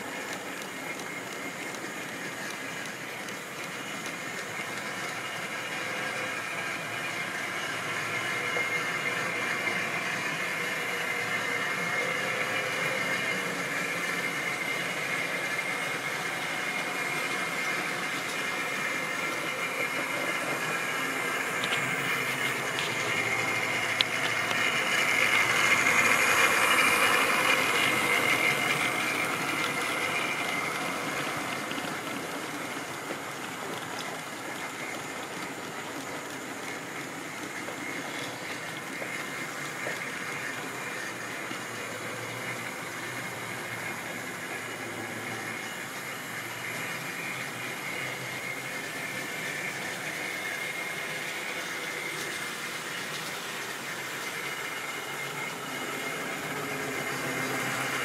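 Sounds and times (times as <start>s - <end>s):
model train motor humming: 0.0s - 58.0s
wagon wheels rattling on rails: 0.0s - 58.0s.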